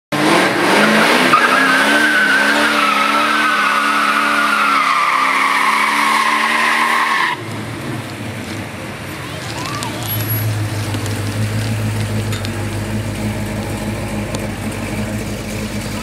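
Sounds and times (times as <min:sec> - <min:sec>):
tyres squealing on pavement: 0:00.8 - 0:16.0.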